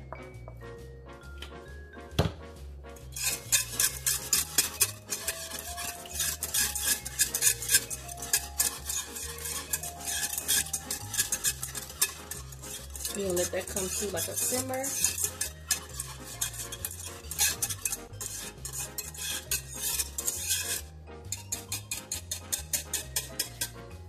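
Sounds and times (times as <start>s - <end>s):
background music: 0.0s - 24.0s
whisk clinking against a pan: 3.1s - 23.9s.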